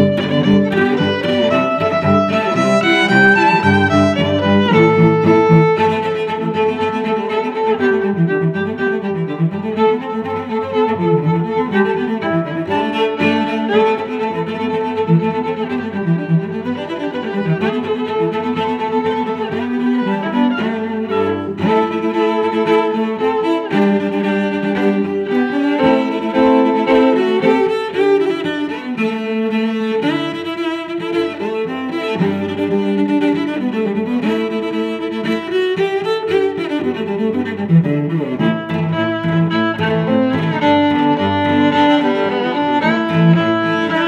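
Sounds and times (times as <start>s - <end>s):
violin and cello music: 0.0s - 44.0s.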